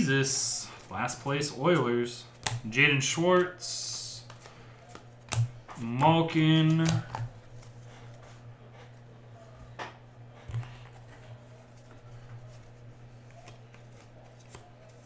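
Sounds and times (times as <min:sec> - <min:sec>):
cards rustling: 0:00.0 - 0:09.8, 0:10.4 - 0:15.0
steady low hum: 0:00.0 - 0:15.0.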